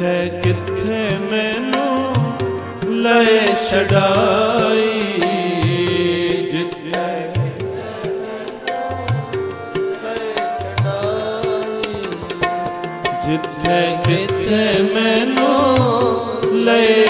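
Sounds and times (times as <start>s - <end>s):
harmonium chords: 0.0s - 17.0s
person singing: 0.0s - 17.0s
tabla drumming: 0.0s - 17.0s.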